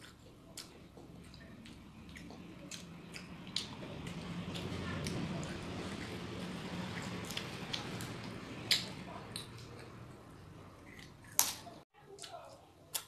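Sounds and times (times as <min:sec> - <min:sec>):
child chewing and sucking fingers: 0:00.0 - 0:13.0
low steady hum: 0:00.0 - 0:13.0.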